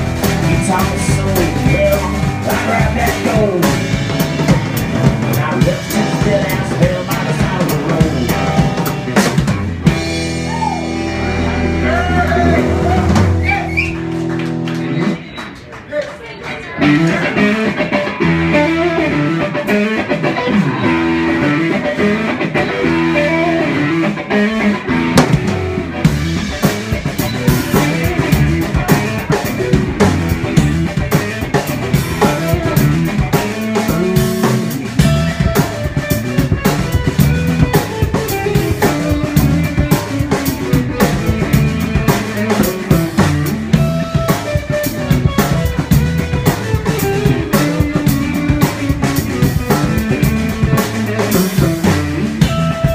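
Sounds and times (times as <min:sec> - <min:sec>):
drum kit and cymbals: 0:00.0 - 0:14.1, 0:24.0 - 0:52.9
upright bass: 0:00.0 - 0:15.4, 0:16.6 - 0:52.9
electric guitar: 0:00.0 - 0:15.5, 0:16.2 - 0:52.9.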